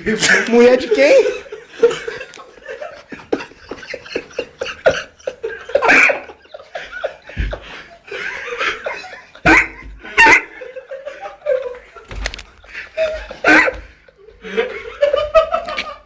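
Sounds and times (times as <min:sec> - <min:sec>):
men snickering and chuckling: 0:00.1 - 0:16.0.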